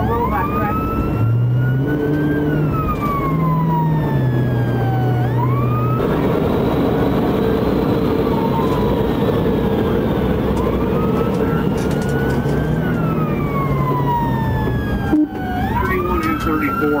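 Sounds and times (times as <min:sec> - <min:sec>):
car road and engine noise: 0:00.0 - 0:17.0
police siren wailing: 0:00.0 - 0:17.0.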